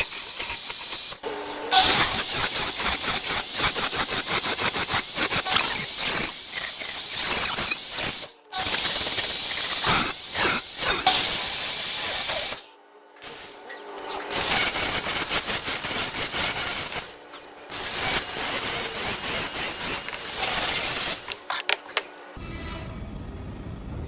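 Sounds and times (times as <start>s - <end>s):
power saw cutting wood: 0.0s - 22.1s.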